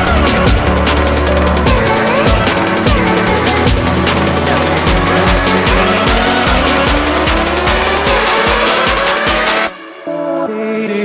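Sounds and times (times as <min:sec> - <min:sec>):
electronic music with steady beat: 0:00.0 - 0:10.4.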